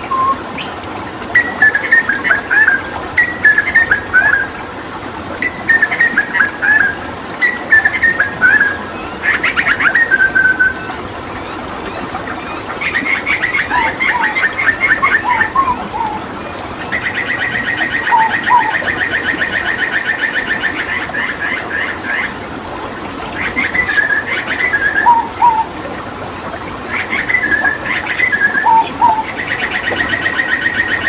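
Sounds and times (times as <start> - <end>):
bird singing trills and whistles: 0.0 - 4.6, 5.4 - 22.3, 23.4 - 25.7, 26.9 - 31.0.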